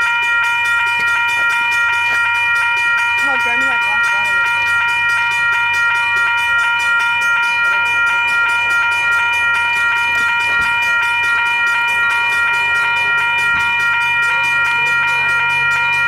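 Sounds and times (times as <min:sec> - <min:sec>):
railway warning bell ringing: 0:00.0 - 0:16.0
low train rumble: 0:00.8 - 0:16.0.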